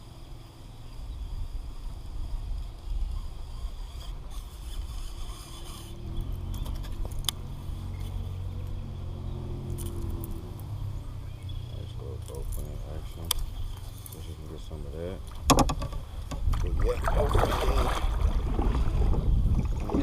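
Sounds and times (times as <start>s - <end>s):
low steady engine hum: 0.0s - 20.0s.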